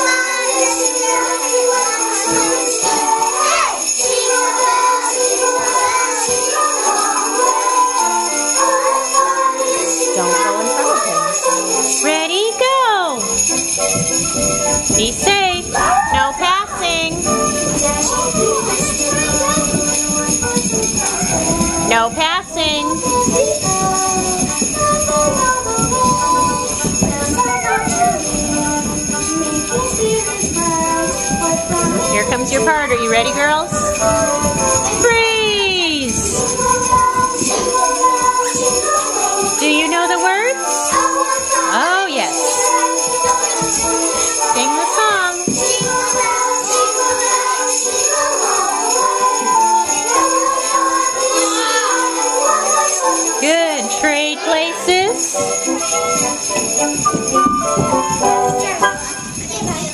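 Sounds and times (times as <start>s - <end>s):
jingle bells shaken: 0.0s - 59.9s
recorded song: 0.0s - 59.9s.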